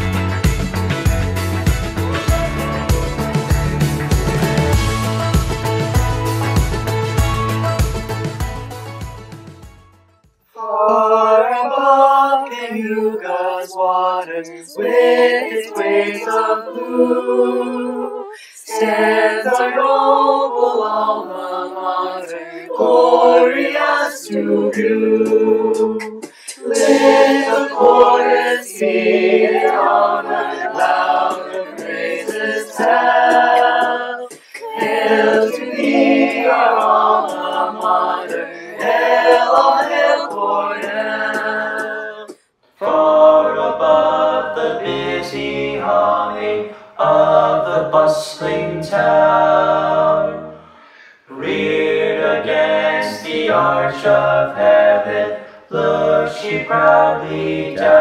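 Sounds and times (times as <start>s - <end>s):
a cappella choir singing: 0.0s - 0.8s, 1.4s - 6.5s, 10.6s - 58.0s.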